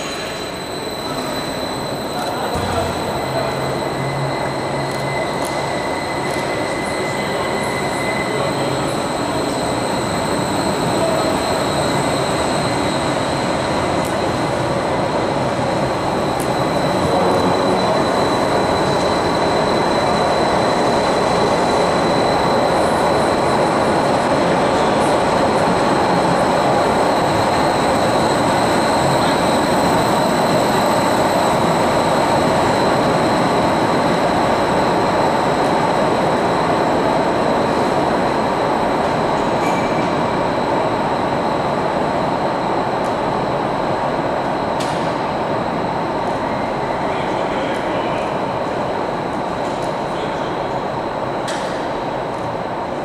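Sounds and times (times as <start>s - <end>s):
thin high whine: 0.0s - 50.4s.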